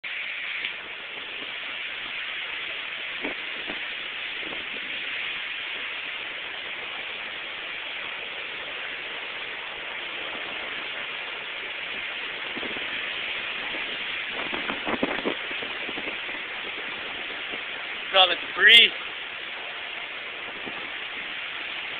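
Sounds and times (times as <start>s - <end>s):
wind and rain rushing: 0.0s - 21.9s.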